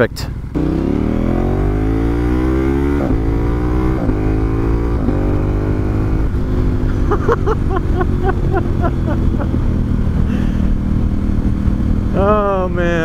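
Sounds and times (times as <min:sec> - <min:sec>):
motorcycle engine accelerating: 0:00.0 - 0:13.0
gear upshifts: 0:00.4 - 0:11.9.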